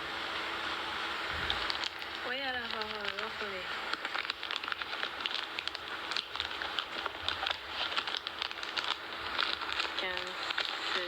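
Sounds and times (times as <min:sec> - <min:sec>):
crackling packaging handling noise: 0:01.2 - 0:11.0.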